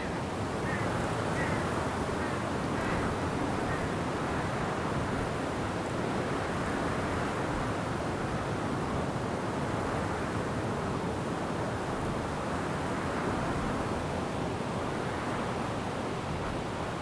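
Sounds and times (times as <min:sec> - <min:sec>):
wind rushing through trees: 0:00.0 - 0:17.0.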